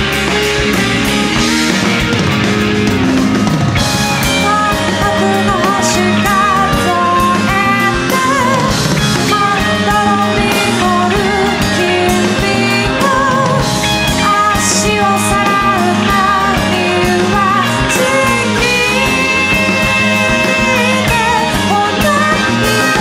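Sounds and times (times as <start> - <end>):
bass guitar: 0.0 - 23.0
drum kit: 0.0 - 23.0
electric guitar: 0.0 - 23.0
woman singing with vibrato: 4.3 - 23.0.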